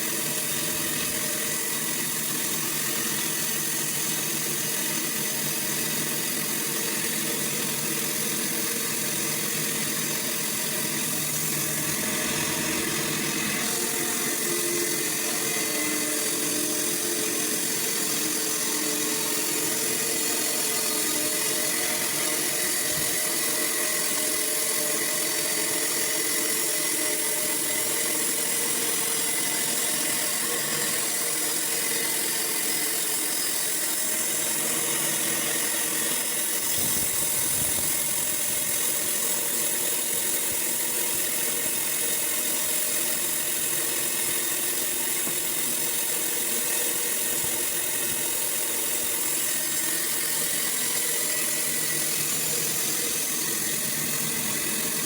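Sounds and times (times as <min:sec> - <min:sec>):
high machine hiss: 0:00.0 - 0:55.0
sawmill machine hum: 0:00.0 - 0:55.0.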